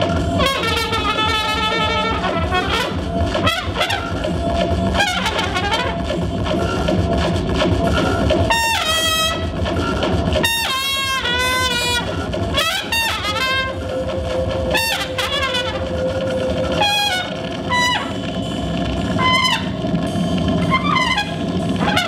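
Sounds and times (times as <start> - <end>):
trumpet playing wavering notes: 0.0 - 6.4, 8.4 - 9.6, 10.4 - 20.0, 20.6 - 22.0
low electronic noise: 0.0 - 22.0
steady held tone: 0.0 - 22.0.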